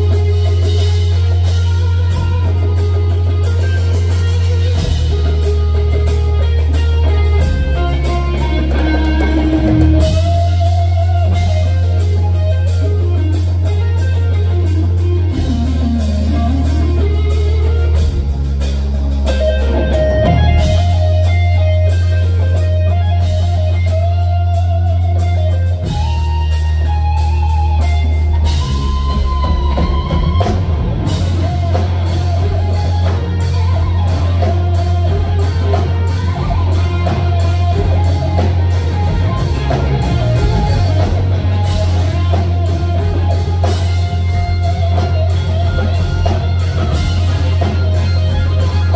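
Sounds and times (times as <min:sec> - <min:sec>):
bass notes: 0:00.0 - 0:48.9
drum kit: 0:00.0 - 0:48.9
electric guitar melody with bends: 0:00.0 - 0:48.9.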